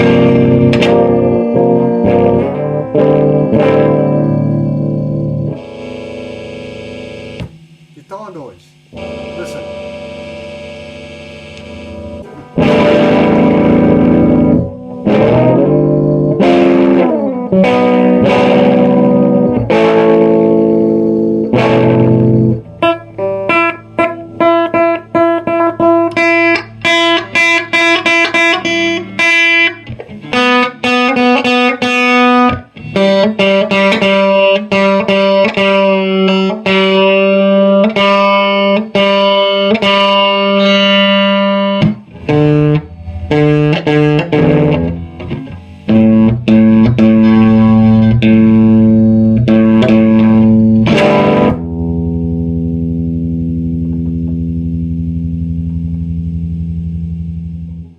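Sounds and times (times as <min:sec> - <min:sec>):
overdriven electric guitar: 0:00.0 - 0:57.9.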